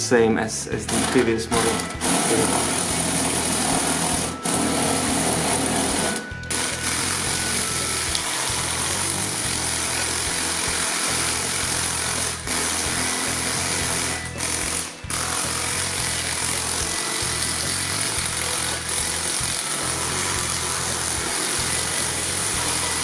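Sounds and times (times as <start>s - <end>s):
electric motors whirring: 0.8s - 23.0s.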